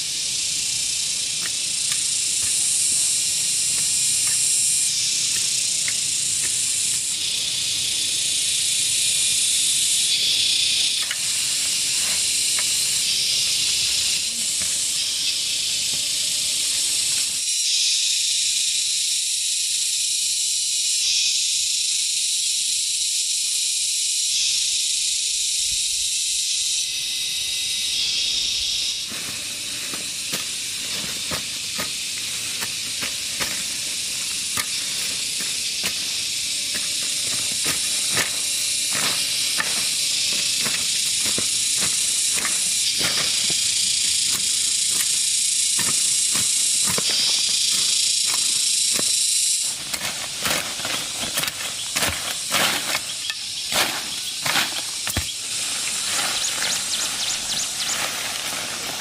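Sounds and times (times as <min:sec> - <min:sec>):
insect chorus hissing: 0:00.0 - 0:59.0.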